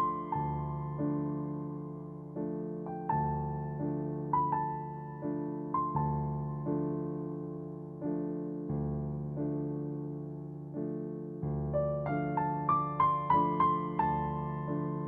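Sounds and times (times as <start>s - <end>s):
soft piano chords and melody: 0.0s - 15.0s.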